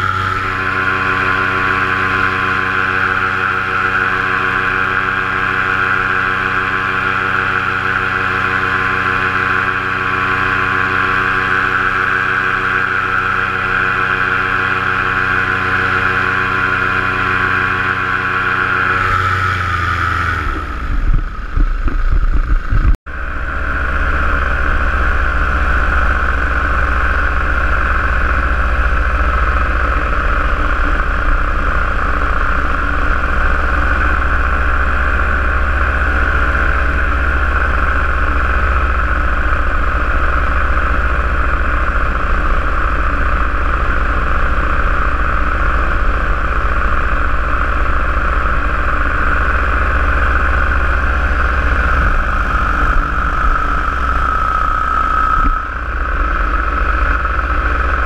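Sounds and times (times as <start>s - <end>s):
paramotor engine droning: 0.0s - 58.0s.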